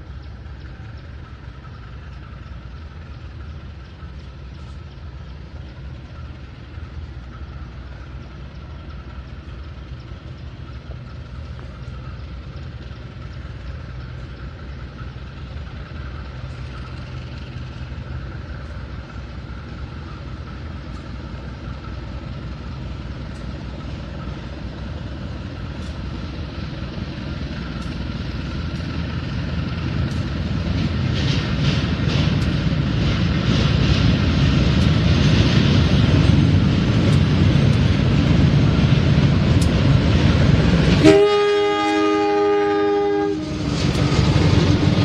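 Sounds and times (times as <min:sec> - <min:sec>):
locomotive engine drone: 0:00.0 - 0:45.0
wheels clicking on rails: 0:00.0 - 0:45.0.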